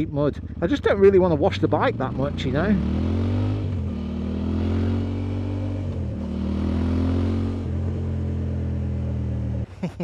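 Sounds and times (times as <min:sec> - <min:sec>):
motorcycle engine accelerating: 0:00.0 - 0:09.7.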